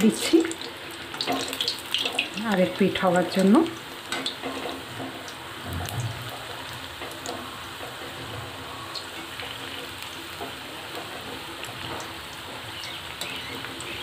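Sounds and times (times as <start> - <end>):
deep-frying sizzle and crackles: 0.0 - 14.0.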